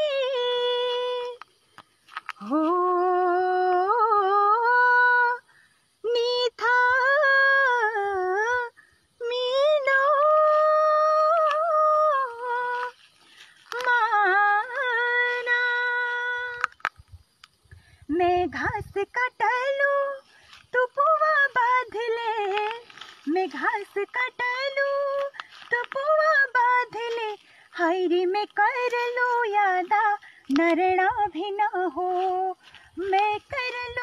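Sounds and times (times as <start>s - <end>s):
woman singing wordless melody: 0.0s - 16.9s, 18.0s - 34.0s.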